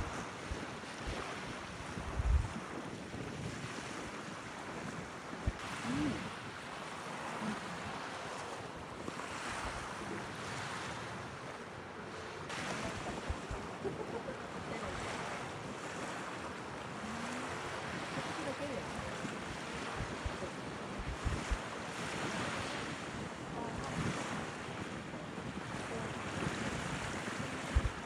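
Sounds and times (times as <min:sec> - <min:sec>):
sea waves washing onto beach: 0:00.0 - 0:28.0.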